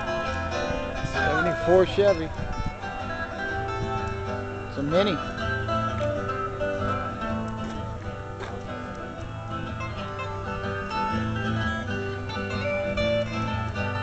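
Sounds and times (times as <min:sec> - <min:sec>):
country music with acoustic guitar: 0:00.0 - 0:14.0.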